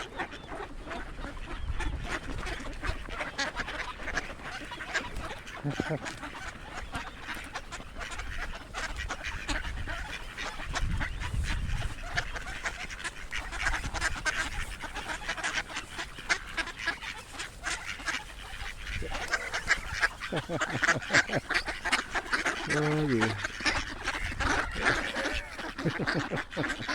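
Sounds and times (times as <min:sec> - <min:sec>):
ducks quacking: 0:00.0 - 0:26.9.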